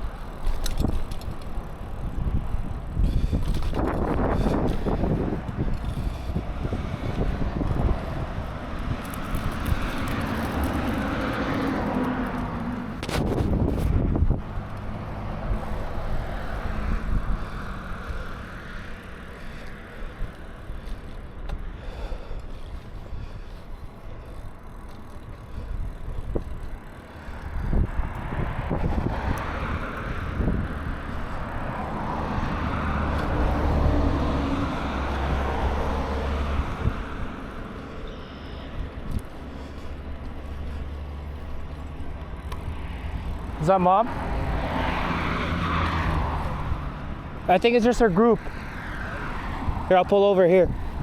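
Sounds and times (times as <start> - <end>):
passing traffic: 0.0 - 51.0
wind and road noise: 0.0 - 51.0.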